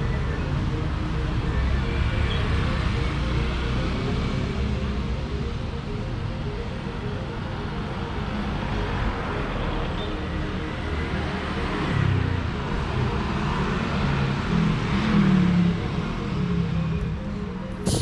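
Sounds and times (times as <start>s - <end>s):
cars and motorbikes passing: 0.0s - 18.0s.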